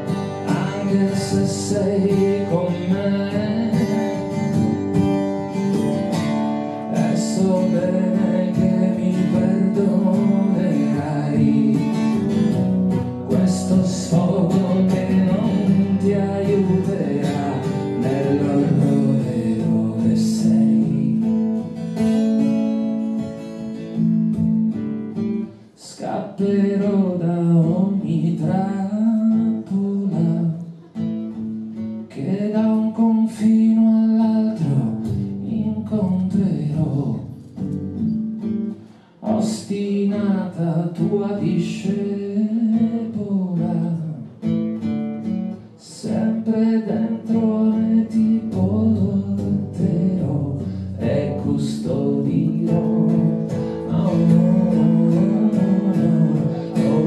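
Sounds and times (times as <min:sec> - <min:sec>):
man singing: 0:00.0 - 0:05.6, 0:06.7 - 0:22.4, 0:25.8 - 0:31.1, 0:31.8 - 0:37.6, 0:39.0 - 0:44.6, 0:45.7 - 0:57.0
strummed acoustic guitar: 0:00.0 - 0:57.0.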